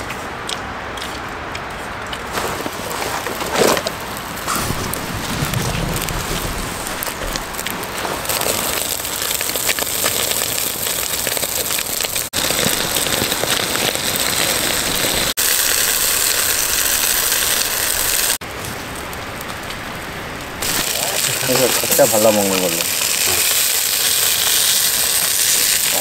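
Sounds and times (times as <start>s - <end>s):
rain hissing and pattering: 2.3s - 26.0s.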